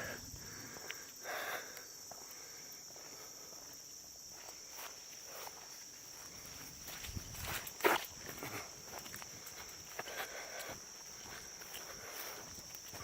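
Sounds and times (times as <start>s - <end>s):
faint footsteps: 0.0s - 13.0s
insects buzzing: 0.0s - 13.0s.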